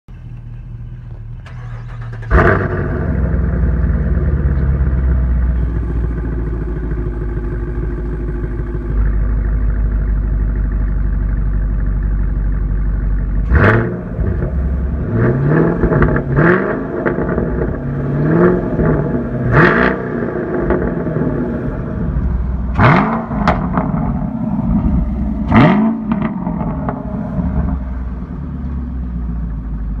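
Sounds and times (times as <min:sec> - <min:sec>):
car engine idling: 0:00.1 - 0:30.0
engine throttle blips: 0:00.1 - 0:30.0.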